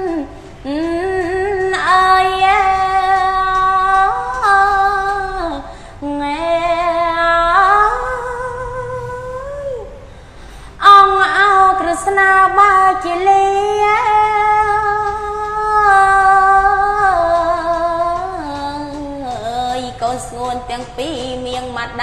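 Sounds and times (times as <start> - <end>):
woman chanting: 0.0 - 10.1, 10.8 - 22.0.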